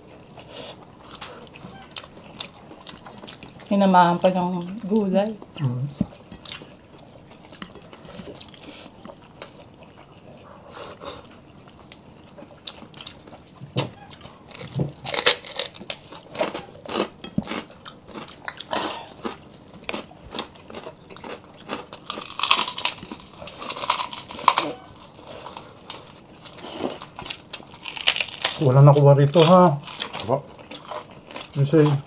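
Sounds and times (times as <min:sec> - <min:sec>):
people chewing and lip smacking: 0:00.0 - 0:32.0.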